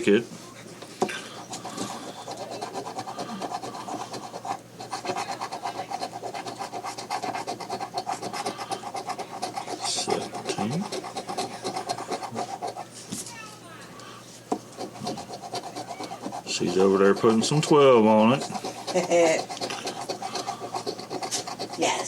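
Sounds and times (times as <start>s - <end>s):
scratching a lottery ticket: 0.6s - 13.5s, 14.6s - 22.0s.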